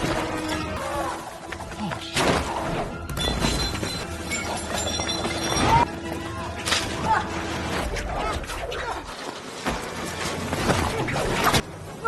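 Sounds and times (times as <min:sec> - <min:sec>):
dramatic music: 0:00.0 - 0:11.8.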